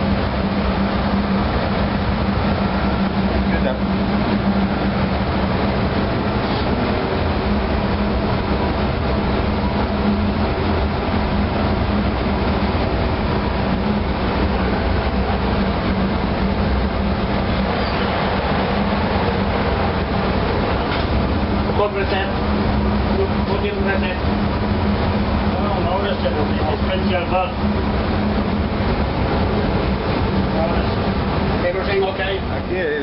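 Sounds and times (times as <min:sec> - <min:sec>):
marine diesel engine droning: 0:00.0 - 0:33.0.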